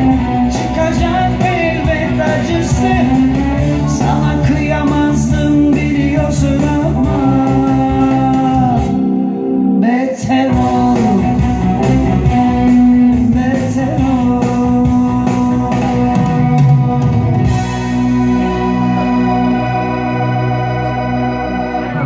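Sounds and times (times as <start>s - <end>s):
bass and beat: 0.0s - 9.0s, 10.5s - 22.0s
keyboard accompaniment: 0.0s - 22.0s
person singing: 0.0s - 22.0s.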